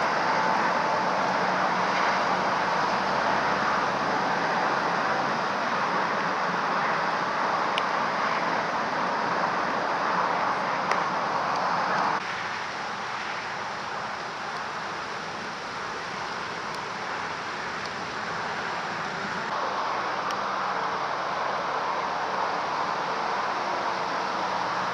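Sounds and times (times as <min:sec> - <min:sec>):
truck engine running: 0:00.0 - 0:24.9.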